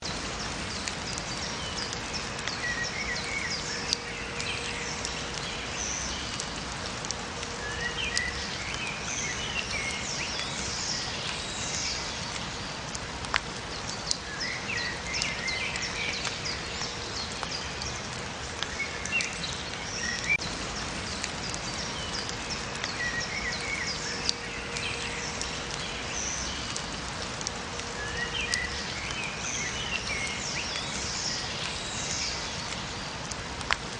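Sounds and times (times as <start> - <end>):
sharp drip-like taps: 0.0 - 33.9
steady rain falling: 0.0 - 33.9
songbirds chirping and trilling: 0.1 - 13.0, 13.6 - 33.4.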